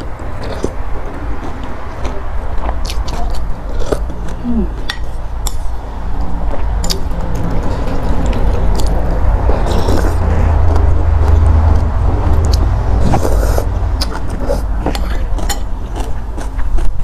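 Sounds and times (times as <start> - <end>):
loud low rumble: 0.0 - 17.0
person chewing noodles: 0.0 - 17.0.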